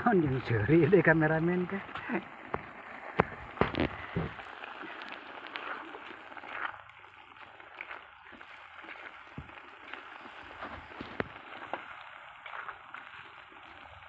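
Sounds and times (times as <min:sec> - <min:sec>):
mushrooms sizzling in a wok: 0:00.0 - 0:14.0.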